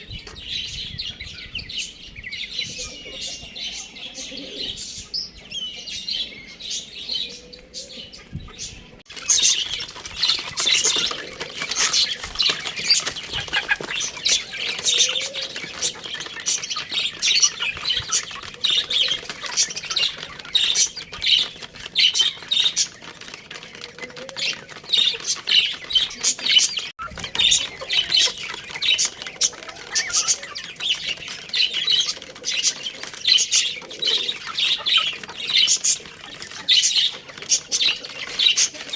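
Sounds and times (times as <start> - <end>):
small birds chirping and squawking: 0.0 - 38.9.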